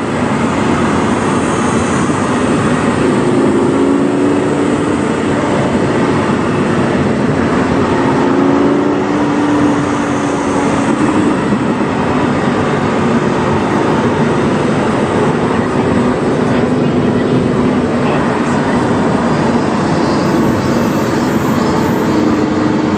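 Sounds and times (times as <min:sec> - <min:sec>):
car exhaust drone: 0:00.0 - 0:22.9
road noise: 0:00.0 - 0:22.9.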